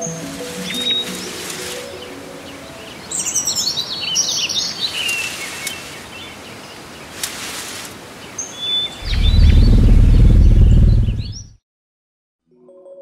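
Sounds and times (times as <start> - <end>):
songbirds chirping: 0.0 - 11.5.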